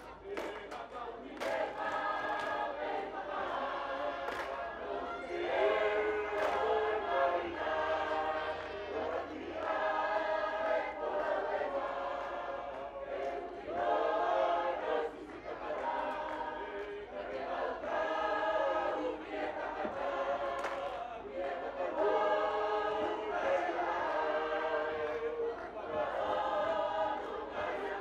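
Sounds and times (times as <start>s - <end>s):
choir singing unaccompanied: 0.0s - 28.0s.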